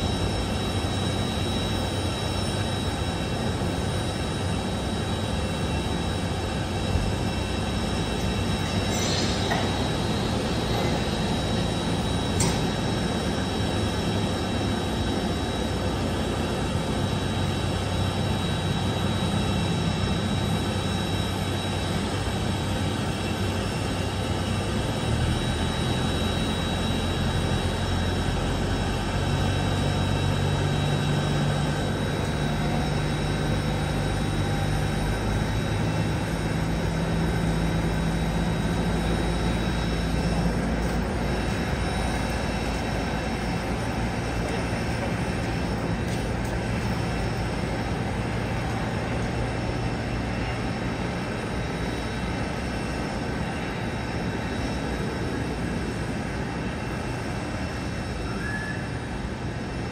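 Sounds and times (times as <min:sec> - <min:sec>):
jet engine whine and rumble: 0:00.0 - 0:59.9.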